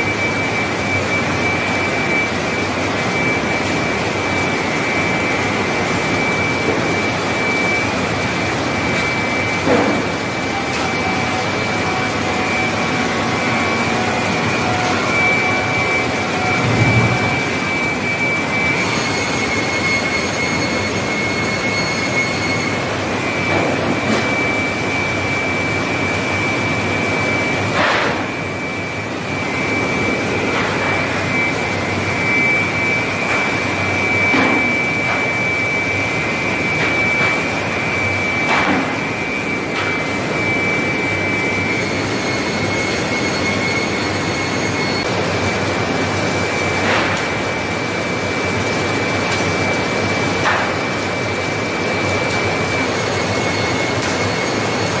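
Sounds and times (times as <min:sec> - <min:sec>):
high mechanical whine: 0:00.0 - 0:55.0
sawmill machinery din: 0:00.0 - 0:55.0.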